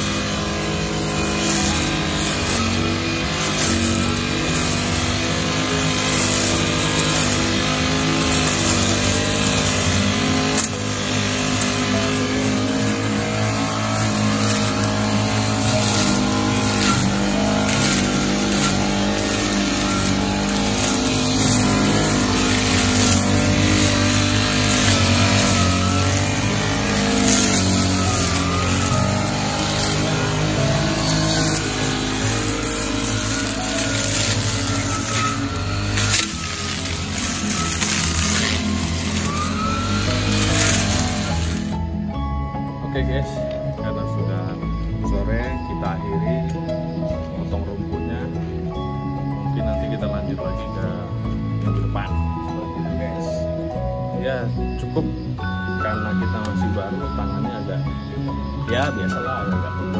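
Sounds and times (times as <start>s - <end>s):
grass cutter engine running: 0.0s - 59.9s.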